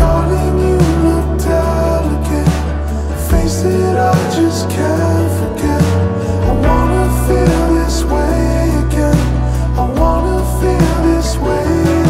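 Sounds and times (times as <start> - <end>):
slow song with bass line: 0.0 - 12.0.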